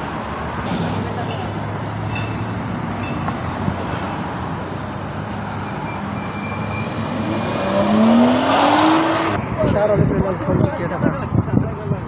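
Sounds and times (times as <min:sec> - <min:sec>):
cars driving past: 0:00.0 - 0:09.7.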